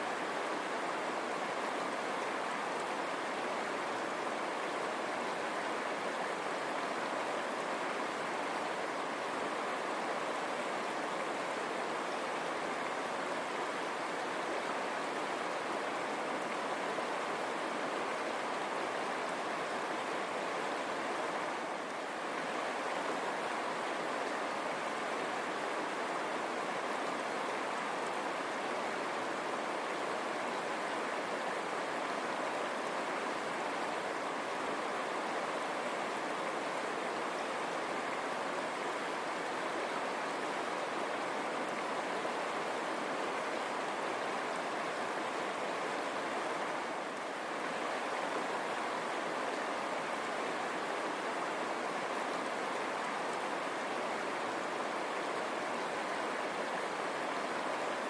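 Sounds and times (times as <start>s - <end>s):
river water rushing over stones: 0.0s - 58.0s.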